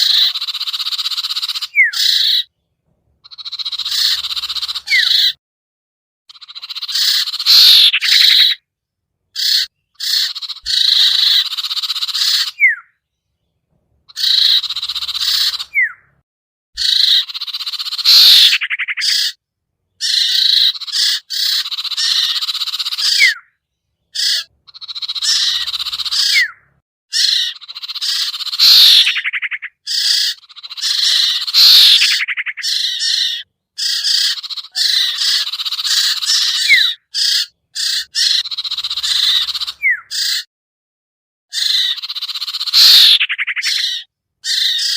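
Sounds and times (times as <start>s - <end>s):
harsh buzzy bird chattering: 0.0s - 2.5s, 3.2s - 5.4s, 6.3s - 8.6s, 9.3s - 12.9s, 14.1s - 16.2s, 16.8s - 19.4s, 20.0s - 40.5s, 41.5s - 44.9s.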